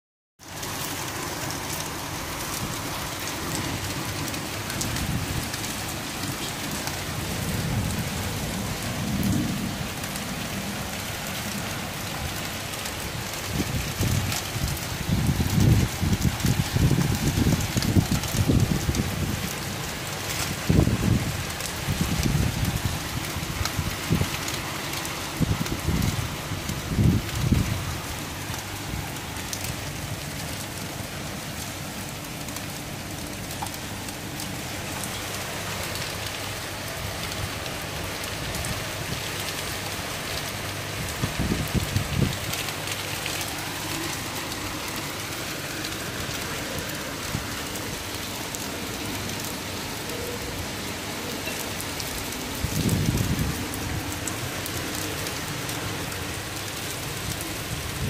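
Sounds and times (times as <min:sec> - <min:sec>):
rain on wet tiled paving: 0:00.4 - 0:58.0.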